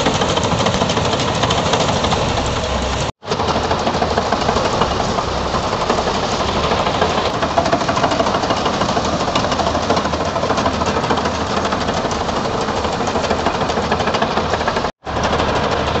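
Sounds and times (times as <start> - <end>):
diesel engine under load: 0.0 - 16.0
rapid mechanical clatter: 0.0 - 16.0.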